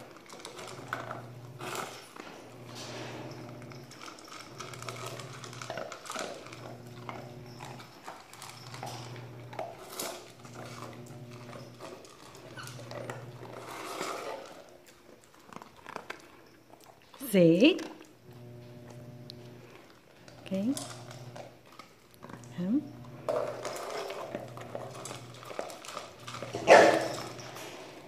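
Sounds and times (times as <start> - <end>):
dog crunching dry kibble: 0.0 - 28.0.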